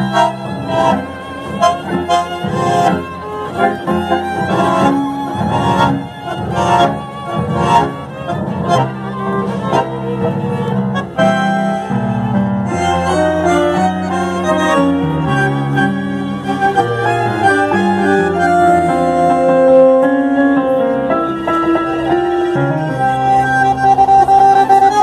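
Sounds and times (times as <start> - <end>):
bandoneon: 0.0 - 25.0
bowed violins: 0.0 - 25.0
double bass: 0.0 - 25.0.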